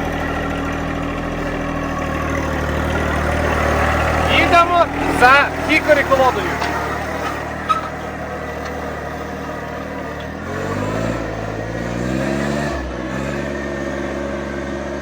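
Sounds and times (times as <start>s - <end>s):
vehicle engine running and revving: 0.0s - 15.0s.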